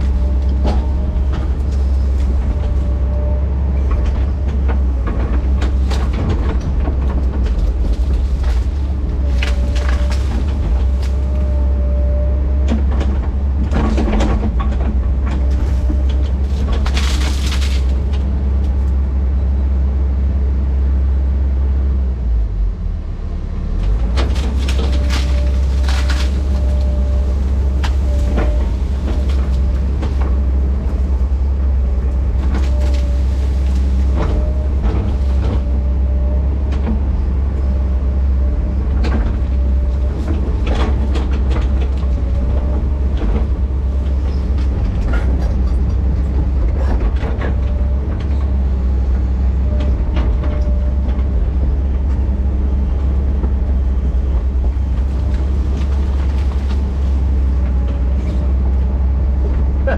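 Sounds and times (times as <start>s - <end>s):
diesel engine droning under load: 0.0s - 59.9s.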